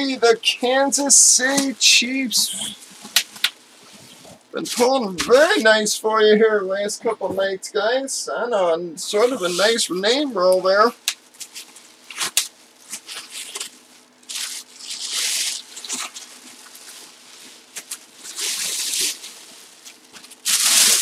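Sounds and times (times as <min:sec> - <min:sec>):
bubble wrap and plastic crinkling: 0:00.0 - 0:05.6, 0:09.2 - 0:21.0.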